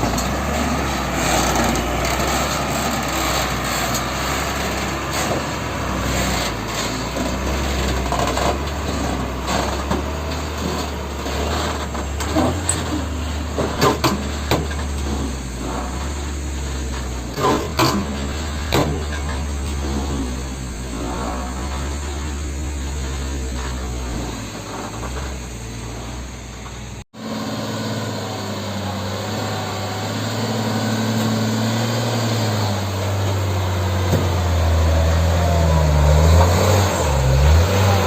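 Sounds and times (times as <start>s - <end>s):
truck engine droning: 0.0s - 38.0s.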